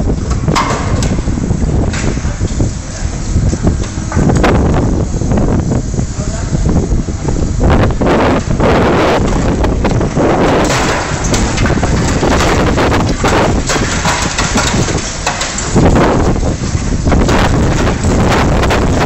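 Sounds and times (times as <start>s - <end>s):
wind buffeting on microphone: 0.0s - 19.0s.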